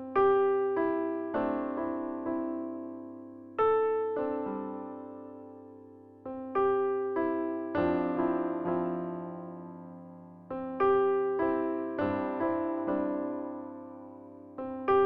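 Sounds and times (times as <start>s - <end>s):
soft electric piano melody: 0.0s - 15.0s.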